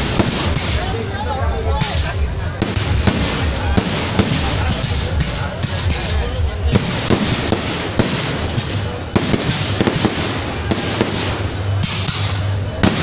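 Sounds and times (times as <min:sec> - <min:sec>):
loud firework cracks: 0:00.0 - 0:01.0, 0:01.8 - 0:13.0
fireworks crackling: 0:00.0 - 0:13.0.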